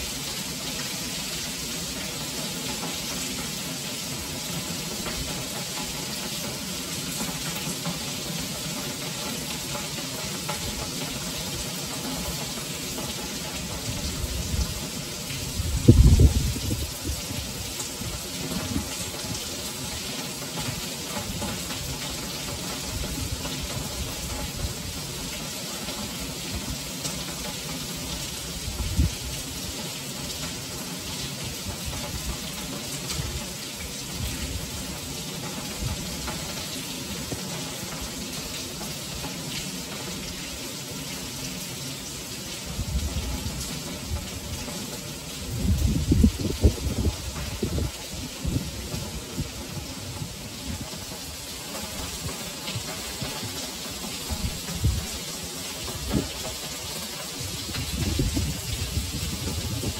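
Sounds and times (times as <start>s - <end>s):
heavy rain on stone paving: 0.0s - 59.9s.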